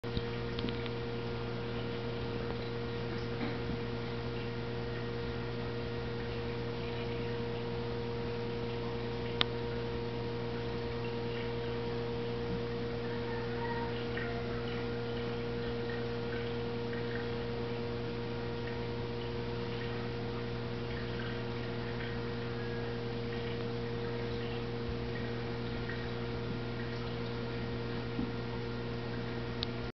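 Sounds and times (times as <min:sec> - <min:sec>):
aquarium filter humming: 0:00.0 - 0:29.9
trickling and dripping water: 0:00.0 - 0:29.9.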